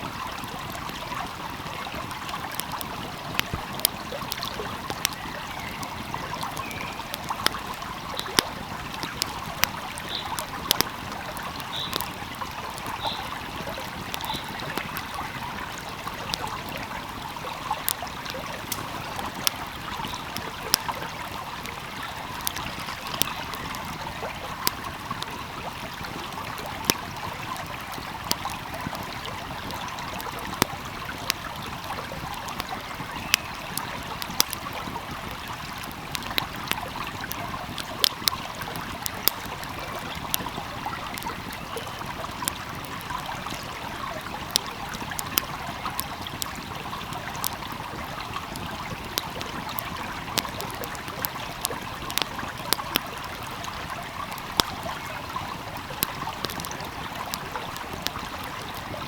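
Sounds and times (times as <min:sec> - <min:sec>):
stream flowing: 0:00.0 - 0:59.0
wood fire crackling: 0:00.0 - 0:59.0.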